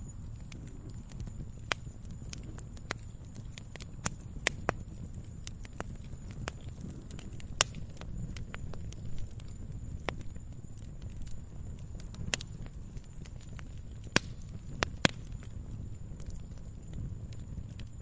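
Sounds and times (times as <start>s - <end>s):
firewood crackling and popping: 0.0s - 18.0s
low rumble of flames: 0.0s - 18.0s.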